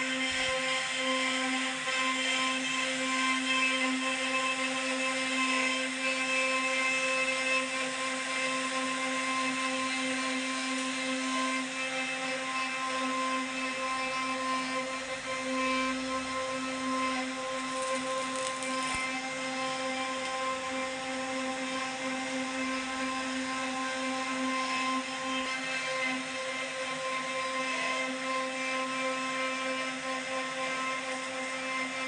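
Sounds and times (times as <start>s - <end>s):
bit carving wood: 0.0s - 32.0s
router spindle whining: 0.0s - 32.0s.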